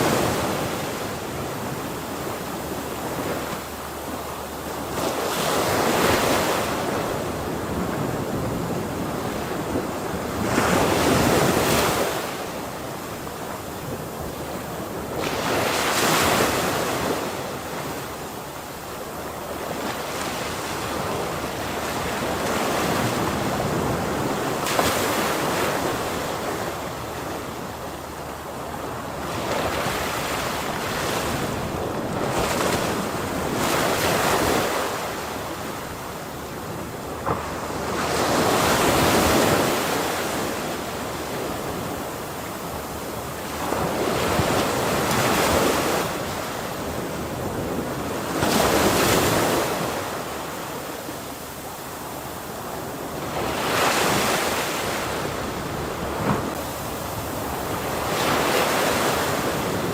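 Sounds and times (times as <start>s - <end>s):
ocean waves crashing on shore: 0.0s - 59.9s
wind on the microphone: 0.0s - 59.9s.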